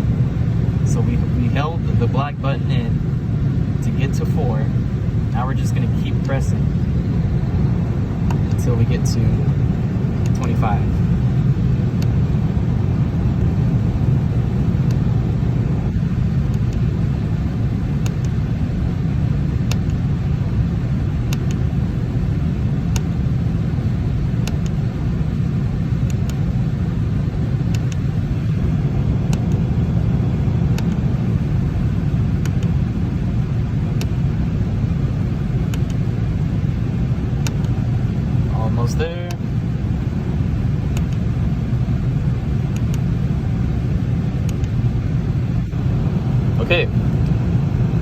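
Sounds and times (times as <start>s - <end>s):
unit running with low rumble: 0.0s - 48.0s.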